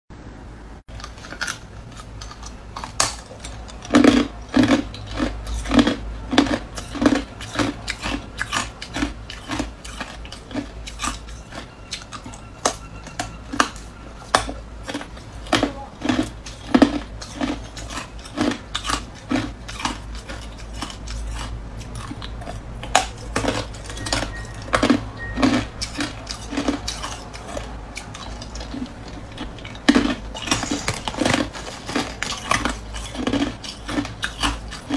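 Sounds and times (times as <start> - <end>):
ice being chewed: 0.9 - 34.9.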